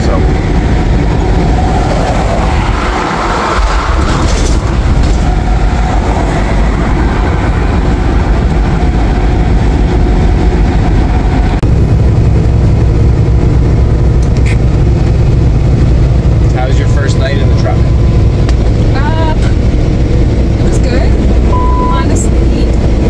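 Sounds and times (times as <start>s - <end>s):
truck engine and tyres droning: 0.0s - 23.0s.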